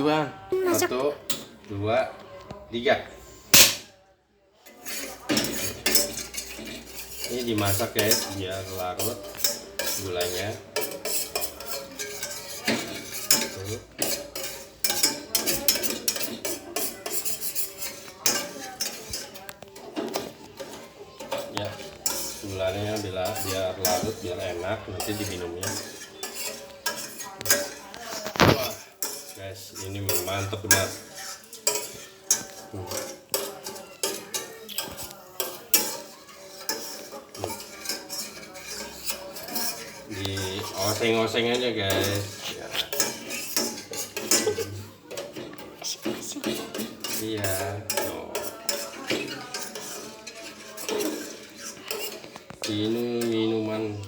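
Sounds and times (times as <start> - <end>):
spoon stirring in a pot: 4.6 - 54.0.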